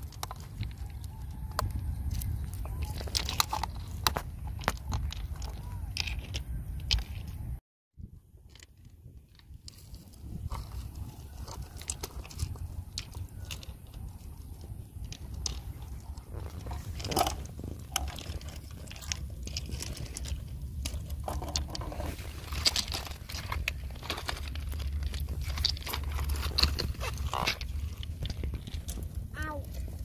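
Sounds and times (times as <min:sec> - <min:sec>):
stones clicking and crunching: 0:00.0 - 0:07.6, 0:08.4 - 0:30.0
steady low rumble: 0:00.0 - 0:30.0.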